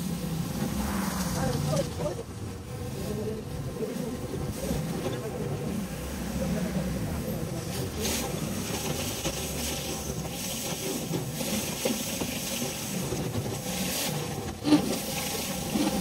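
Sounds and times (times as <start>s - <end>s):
water jets hissing: 0.0s - 16.0s.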